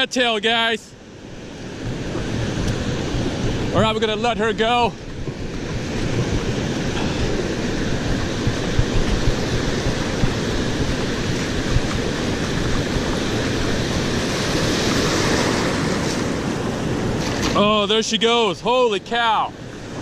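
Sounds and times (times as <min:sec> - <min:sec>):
ocean surf breaking: 0:00.0 - 0:20.0
wind on microphone: 0:01.0 - 0:17.9
wash running up sand: 0:01.7 - 0:20.0.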